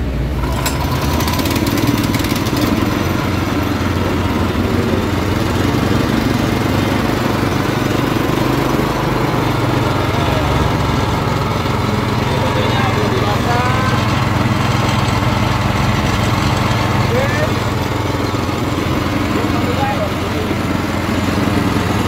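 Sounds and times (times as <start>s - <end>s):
petrol engine running at low throttle: 0.0s - 22.0s.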